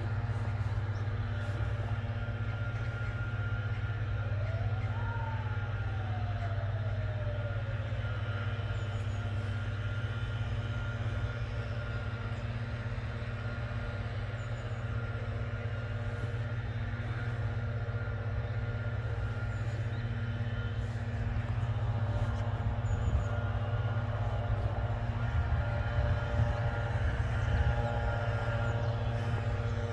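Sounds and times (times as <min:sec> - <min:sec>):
low rumble of city traffic: 0:00.0 - 0:29.9.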